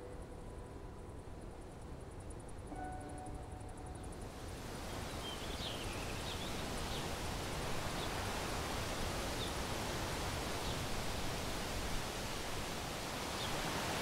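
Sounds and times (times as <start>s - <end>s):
rushing outdoor hiss: 0.0s - 14.0s.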